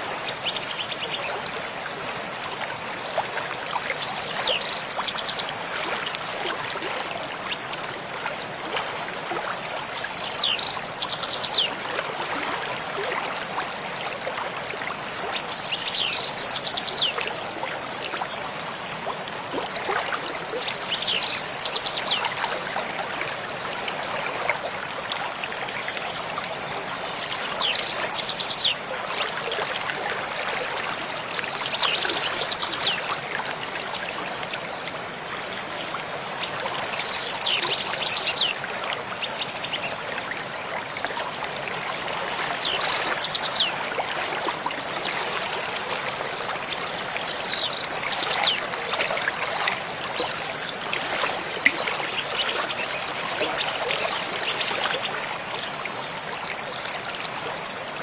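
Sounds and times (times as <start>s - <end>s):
mountain stream flowing: 0.0s - 58.0s.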